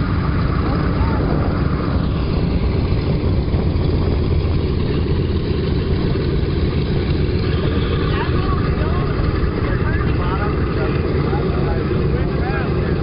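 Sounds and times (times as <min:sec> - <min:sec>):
propeller engines droning: 0:00.0 - 0:13.0.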